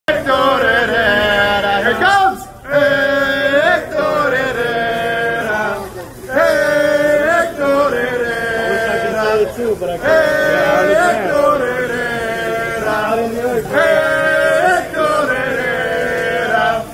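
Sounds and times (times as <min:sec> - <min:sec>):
men singing a supporters' chant: 0:00.1 - 0:16.9.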